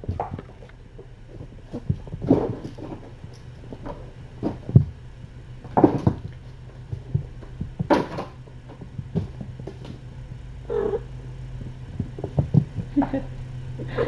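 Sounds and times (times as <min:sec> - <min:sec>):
kittens scuffling: 0:00.0 - 0:14.0
rustling thumps against surfaces: 0:00.0 - 0:14.0
steady low hum: 0:00.0 - 0:14.0.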